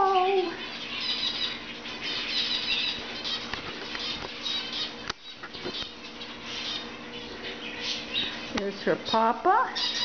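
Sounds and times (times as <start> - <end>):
cage birds chirping: 0.0 - 10.0
faint steady hum: 0.0 - 10.0.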